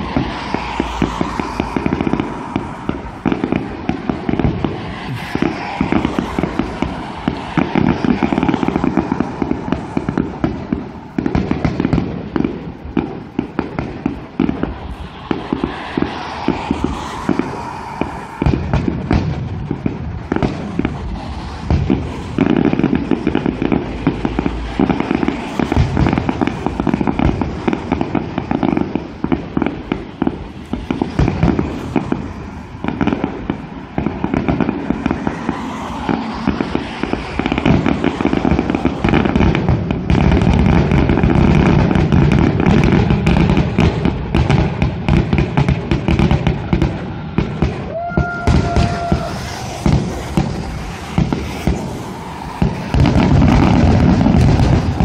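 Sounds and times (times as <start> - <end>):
fireworks bursting: 0.0 - 55.0
fireworks crackling: 0.0 - 55.0.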